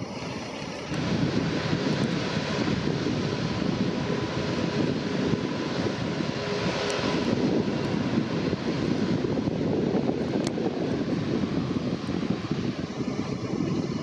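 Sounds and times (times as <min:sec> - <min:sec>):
jet engine noise in cabin: 0:00.0 - 0:14.0.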